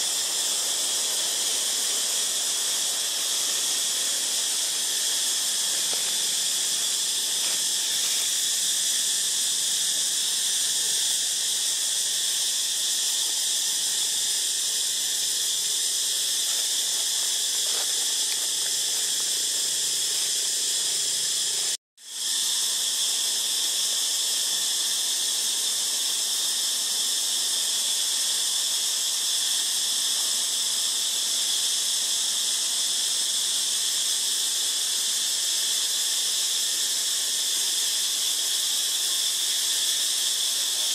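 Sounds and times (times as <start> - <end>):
insect chorus hissing: 0.0 - 40.9.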